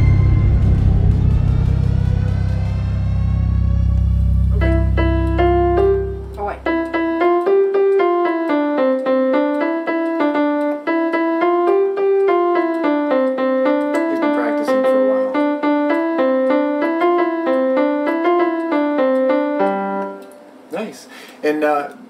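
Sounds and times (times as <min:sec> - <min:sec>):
electronic keyboard piano melody: 0:00.0 - 0:21.0.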